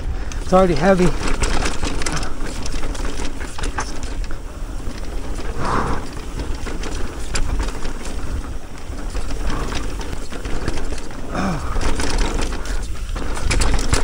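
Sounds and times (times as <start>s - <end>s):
bike chain rattling and clicking: 0.0s - 14.0s
tyres rumbling over dirt: 0.0s - 14.0s.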